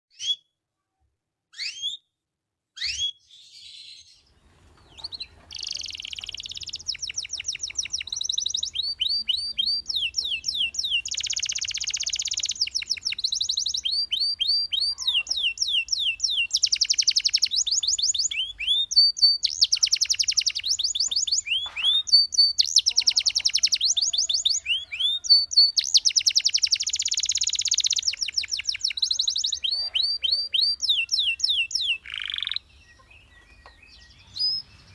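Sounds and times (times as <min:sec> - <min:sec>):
canary singing trills: 0:01.5 - 0:02.0, 0:02.8 - 0:34.9.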